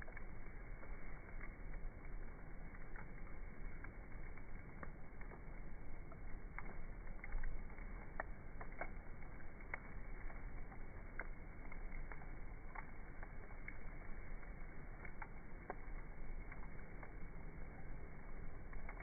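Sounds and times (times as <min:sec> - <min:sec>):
campfire crackling and popping: 0:00.0 - 0:19.0
low rush of flame: 0:00.0 - 0:19.0.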